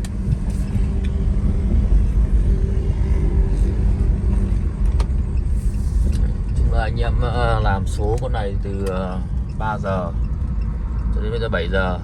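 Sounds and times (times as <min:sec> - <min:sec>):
car engine and road noise rumble: 0:00.0 - 0:12.0.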